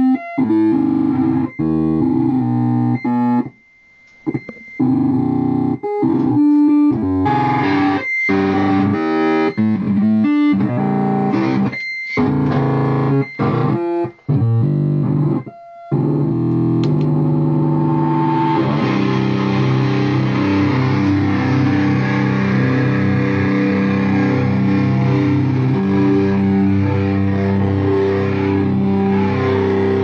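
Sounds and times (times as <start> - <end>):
synthesizer repeating note pattern: 0.0 - 3.5, 4.2 - 30.0.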